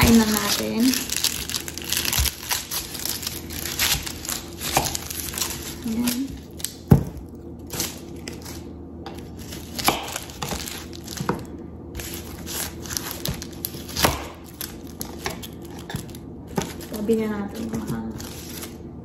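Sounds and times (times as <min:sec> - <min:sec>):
onion skin peeling and crinkling: 0:00.0 - 0:18.8.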